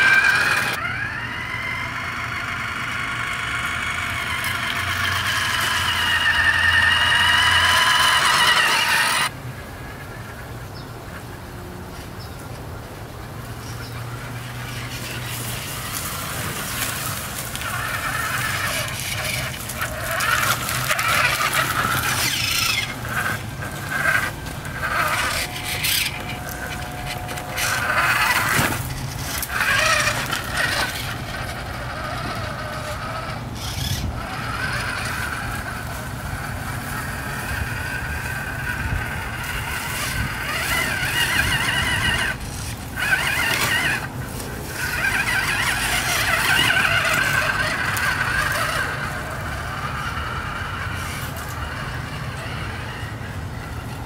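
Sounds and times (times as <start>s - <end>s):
toy car motor and gears whirring: 0.0s - 11.2s, 13.5s - 54.0s.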